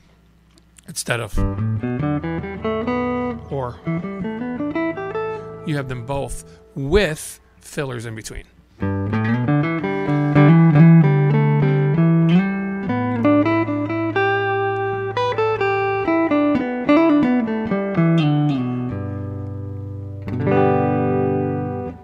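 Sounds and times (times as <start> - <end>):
electric guitar playing: 1.4 - 7.1, 8.7 - 22.0.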